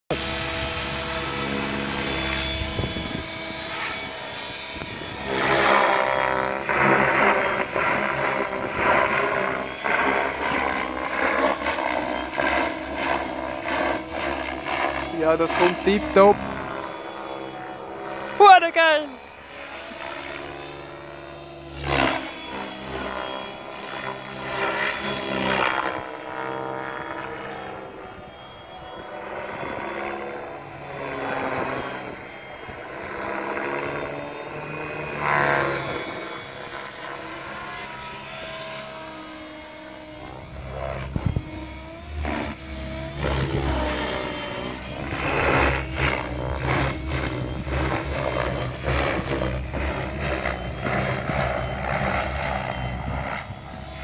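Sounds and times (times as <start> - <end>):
rc helicopter rotor and motor: 0.1 - 54.0.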